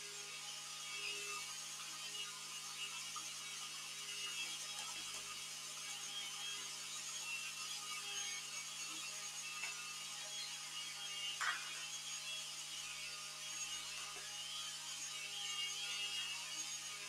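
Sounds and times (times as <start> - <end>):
food processor humming: 0.0 - 17.0.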